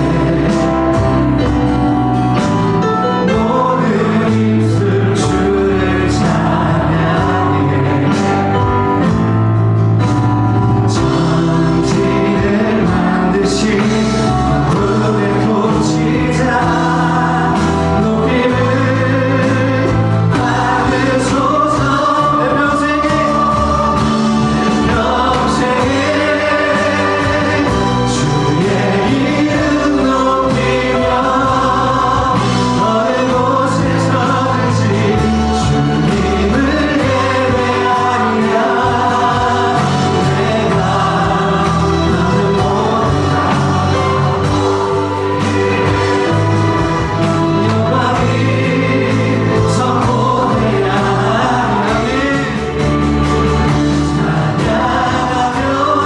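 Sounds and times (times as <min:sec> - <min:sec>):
group of voices singing: 0:00.0 - 0:56.0
instrumental accompaniment with beat: 0:00.0 - 0:56.0.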